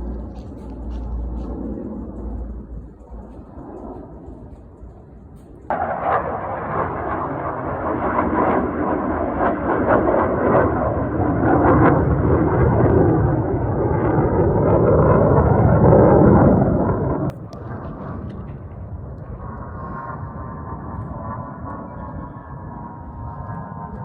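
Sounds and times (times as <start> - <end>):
aircraft noise: 0.0 - 24.0.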